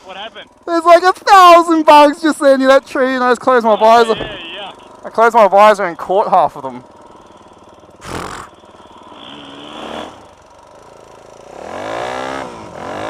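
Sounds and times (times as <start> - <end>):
dirt bike engine revving: 0.5 - 13.0.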